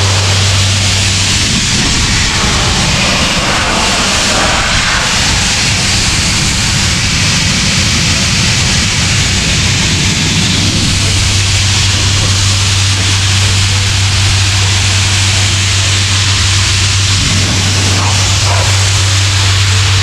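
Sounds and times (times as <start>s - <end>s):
compressed air blowpipe hissing: 0.0s - 20.0s
diesel air compressor drone: 0.0s - 20.0s.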